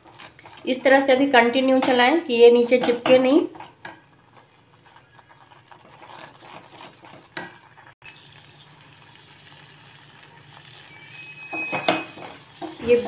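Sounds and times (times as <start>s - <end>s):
milk sizzling in a pan: 0.0s - 13.0s
spatula stirring and scraping: 0.0s - 13.0s.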